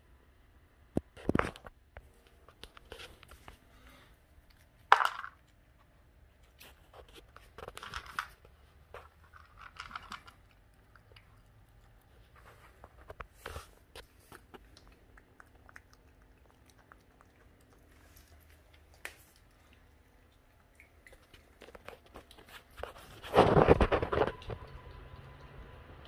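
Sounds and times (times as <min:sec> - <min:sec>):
puppy crunching dry kibble: 0:04.3 - 0:26.0.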